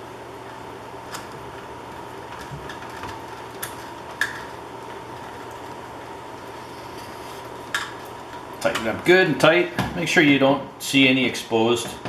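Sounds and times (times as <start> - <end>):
steady faint hum: 0.0 - 12.0.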